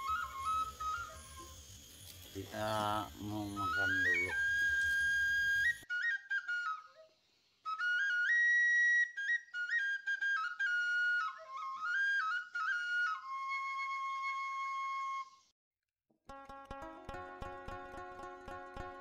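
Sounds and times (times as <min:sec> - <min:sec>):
solo flute melody: 0:00.0 - 0:15.5.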